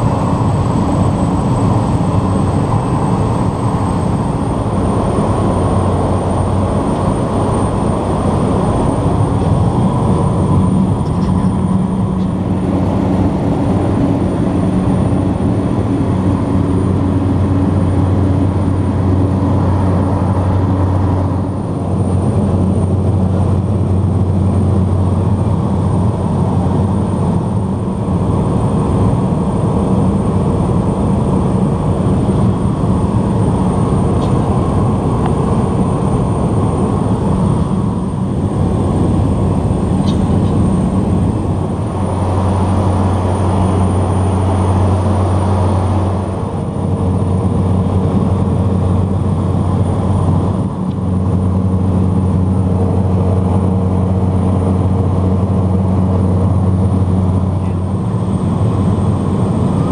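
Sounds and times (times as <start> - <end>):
plane engine and propeller drone: 0.0 - 59.9.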